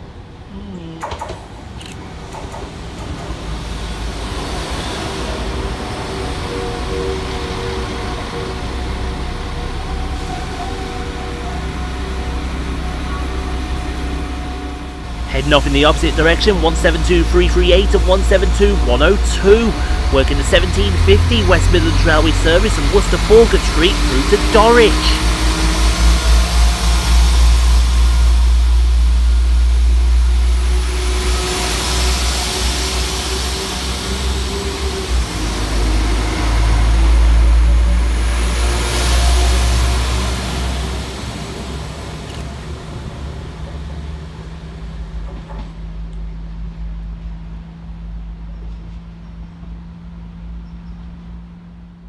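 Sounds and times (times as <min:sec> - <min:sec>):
diesel train rumble: 0:00.0 - 0:52.0.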